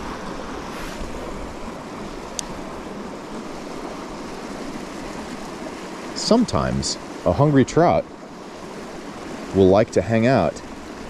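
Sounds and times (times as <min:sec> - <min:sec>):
creek rushing over rocks: 0:00.0 - 0:11.0.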